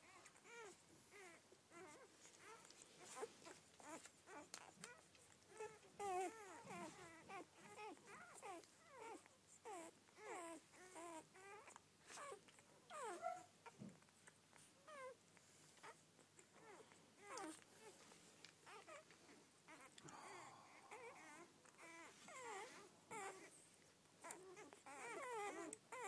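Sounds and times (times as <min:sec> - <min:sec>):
puppies squeaking and whimpering: 0:00.1 - 0:18.0, 0:18.6 - 0:19.1, 0:19.7 - 0:26.0.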